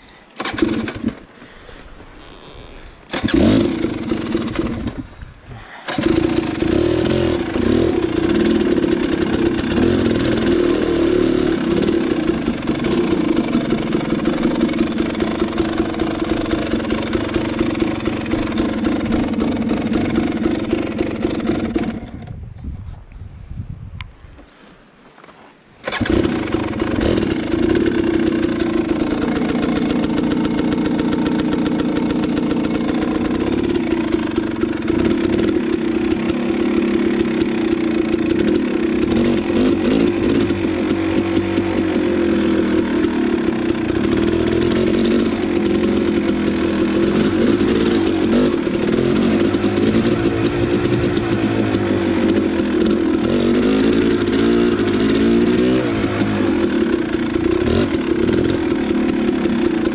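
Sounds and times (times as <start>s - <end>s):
dirt bike engine running: 0.0s - 22.6s, 25.8s - 59.9s.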